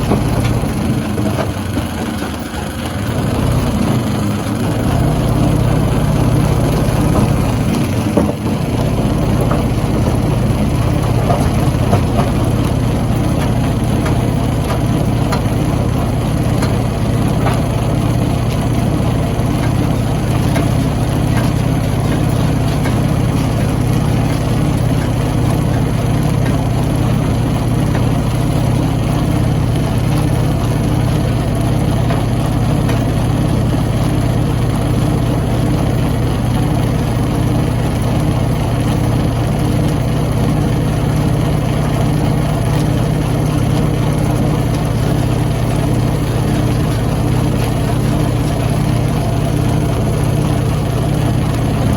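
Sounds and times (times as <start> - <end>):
stone crusher droning: 0.0 - 51.9.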